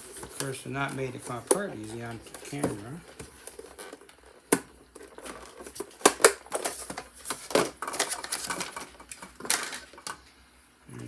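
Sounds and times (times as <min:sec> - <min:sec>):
plastic packaging crinkling: 0:00.0 - 0:10.2
plastic snapping: 0:00.1 - 0:10.2.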